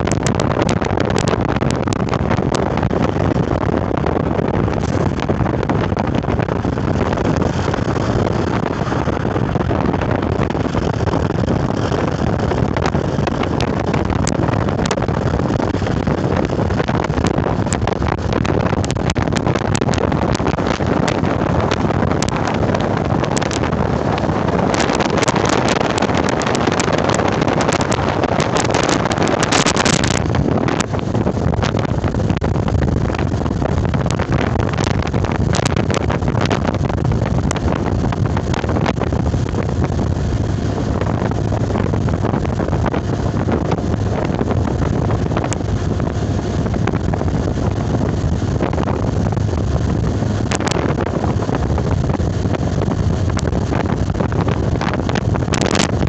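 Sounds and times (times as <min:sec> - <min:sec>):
motor vehicle rumble: 0:00.0 - 0:56.0
rapid crackles: 0:00.0 - 0:56.0
wind buffeting microphone: 0:00.0 - 0:56.0.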